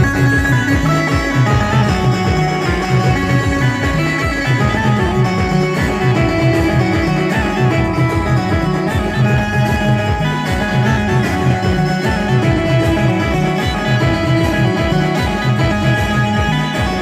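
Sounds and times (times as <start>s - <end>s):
plucked-string melody: 0.0s - 17.0s
repeating bass beat: 0.0s - 17.0s.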